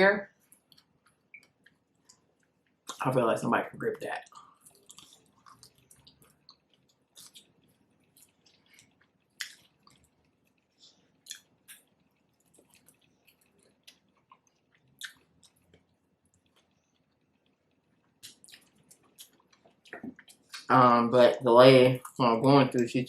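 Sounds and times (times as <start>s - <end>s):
chewing with wet mouth clicks: 0.5s - 3.0s, 4.2s - 20.7s.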